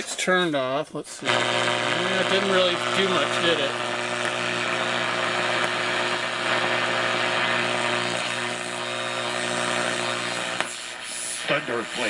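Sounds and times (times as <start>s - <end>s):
radio static hiss: 1.2s - 12.0s.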